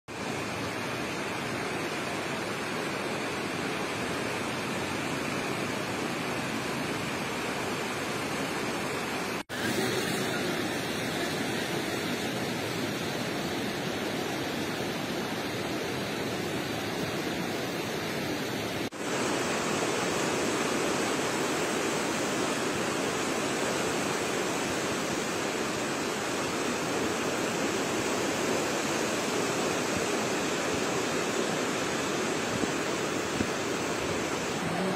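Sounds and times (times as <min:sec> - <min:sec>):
river rushing roar: 0:00.1 - 0:34.9.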